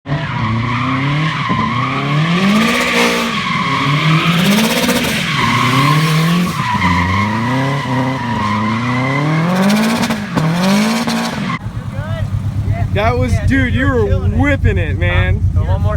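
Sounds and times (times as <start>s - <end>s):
car engine revving: 0.1s - 15.9s
tyres squealing: 0.3s - 14.0s.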